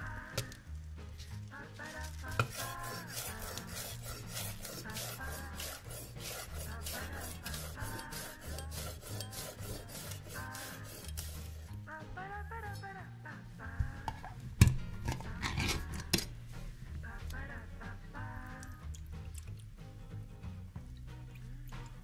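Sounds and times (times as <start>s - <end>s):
background music with bass: 0.0s - 22.0s
rhythmic rasping food preparation: 0.0s - 22.0s.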